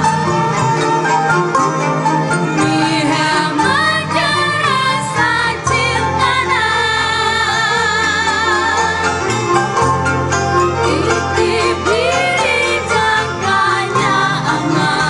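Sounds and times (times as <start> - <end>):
ensemble playing: 0.0 - 15.0.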